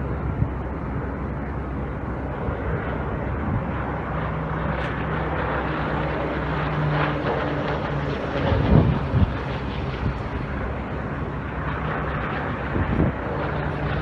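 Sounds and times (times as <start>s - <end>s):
outdoor noise: 0.0s - 14.0s
plane engine droning overhead: 0.0s - 14.0s.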